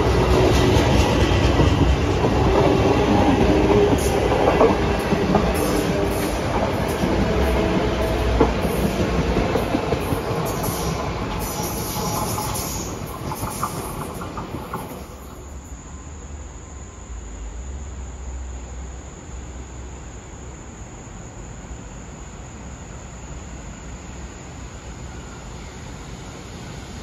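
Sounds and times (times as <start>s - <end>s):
crickets chirring: 0.0s - 27.0s
distant train rumble: 0.0s - 27.0s.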